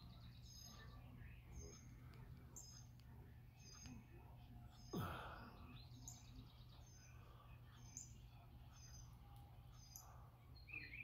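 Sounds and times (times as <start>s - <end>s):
faint bird chirps: 0.0s - 11.0s
steady low hum: 0.0s - 11.0s.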